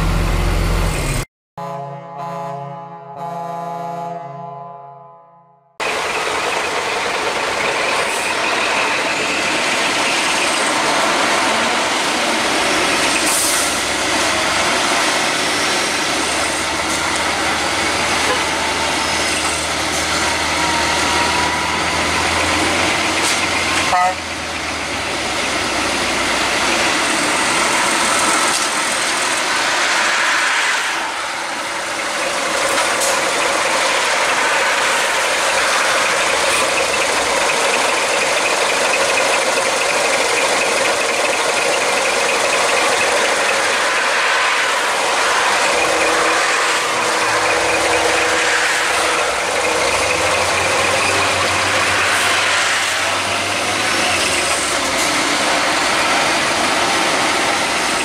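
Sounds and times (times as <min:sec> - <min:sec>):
heavy truck engine running: 0:00.0 - 0:01.3, 0:05.8 - 0:30.2, 0:31.5 - 0:58.0.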